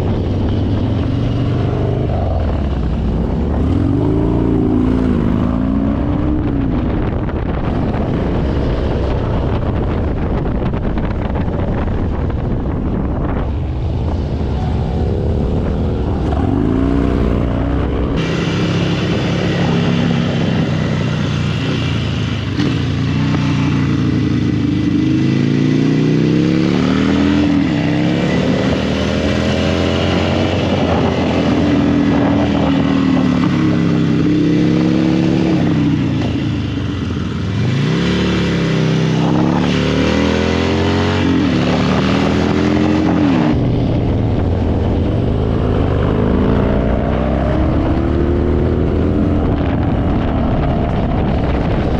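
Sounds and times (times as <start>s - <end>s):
motorcycle engine revving: 0.0s - 51.9s
rushing noise: 0.0s - 51.9s.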